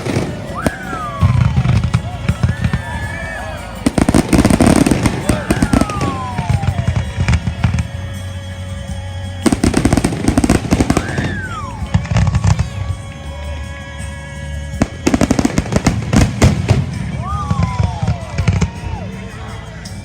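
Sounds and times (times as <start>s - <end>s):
firework whistle: 0.0s - 20.0s
fireworks crackling bangs: 0.0s - 20.0s
music: 0.0s - 20.0s.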